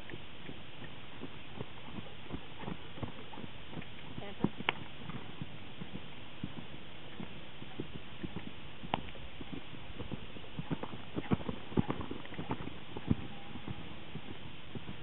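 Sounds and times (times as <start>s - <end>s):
horse hooves thudding on sand: 0.0s - 15.0s.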